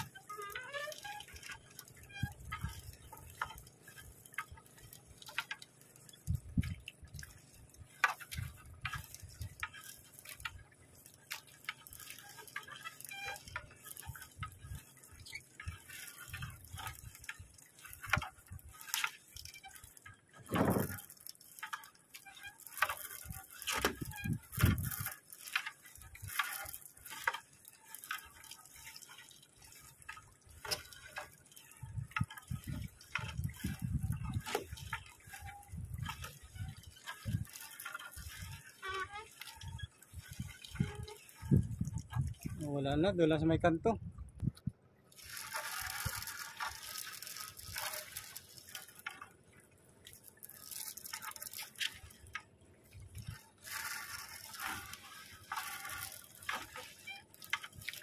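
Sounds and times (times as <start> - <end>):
water dripping and splashing: 0.0 - 43.2, 44.2 - 58.0.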